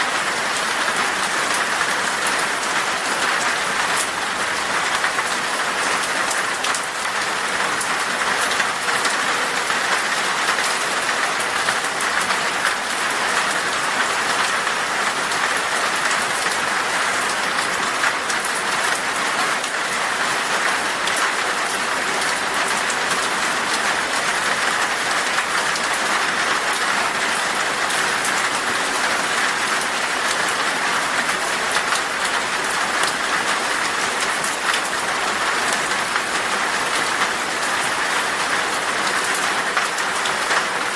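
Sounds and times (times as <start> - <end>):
heavy rain on glass: 0.0 - 40.9.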